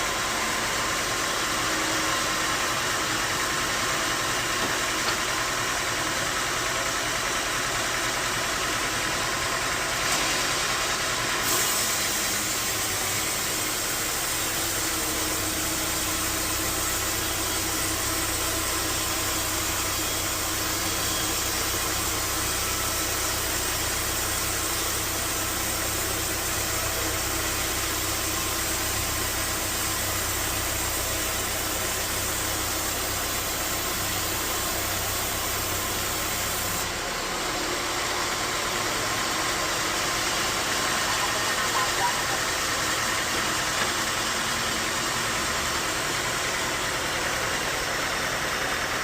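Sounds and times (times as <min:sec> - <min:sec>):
bandsaw machinery running: 0:09.0 - 0:49.0.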